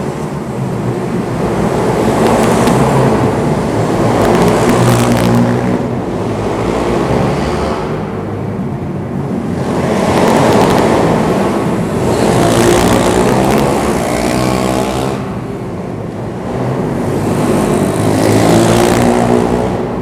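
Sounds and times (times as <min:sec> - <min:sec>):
motorbike engine revving: 0:01.4 - 0:08.0, 0:09.4 - 0:15.5, 0:16.4 - 0:20.0.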